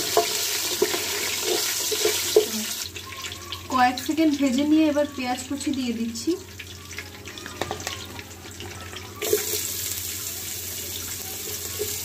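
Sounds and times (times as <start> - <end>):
onions sizzling in a pot: 0.0 - 12.0
spices frying in hot oil: 0.0 - 12.0.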